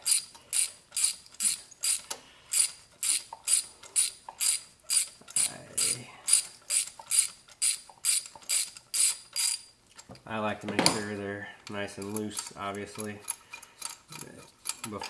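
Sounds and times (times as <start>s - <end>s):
hand ratchet clicking: 0.0s - 9.7s, 11.6s - 15.0s.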